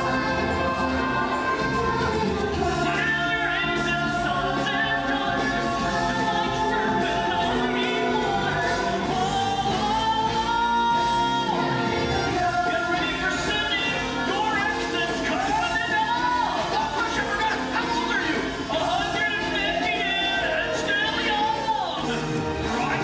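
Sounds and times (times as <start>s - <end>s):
choir singing: 0.0s - 23.0s
musical accompaniment: 0.0s - 23.0s.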